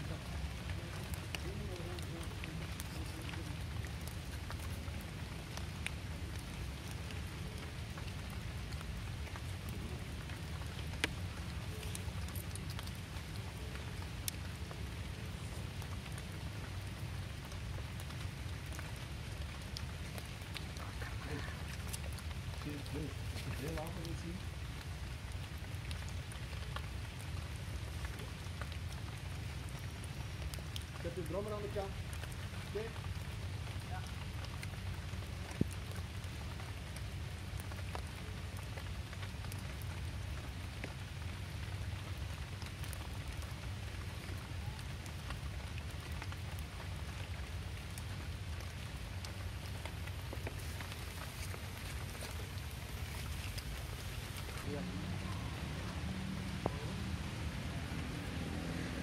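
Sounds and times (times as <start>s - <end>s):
raindrops tapping: 0.0s - 59.0s
steady rain falling: 0.0s - 59.0s.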